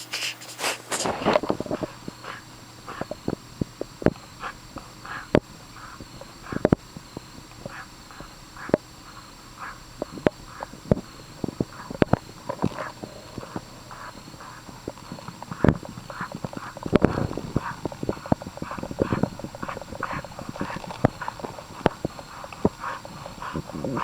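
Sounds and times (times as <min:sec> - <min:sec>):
puppy breathing noisily: 0:00.0 - 0:24.0.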